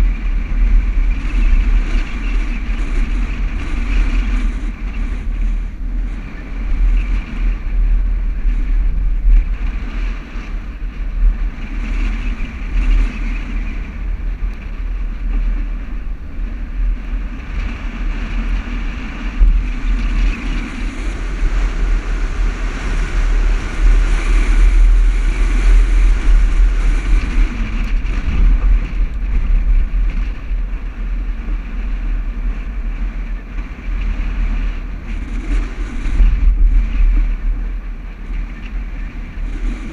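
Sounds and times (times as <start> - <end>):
vehicle engine driving rumble: 0.0 - 39.9.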